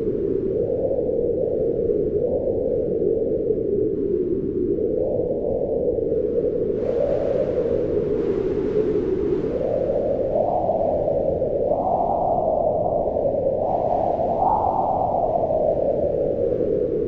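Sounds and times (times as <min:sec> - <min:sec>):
howling wind gusts: 0:00.0 - 0:17.0.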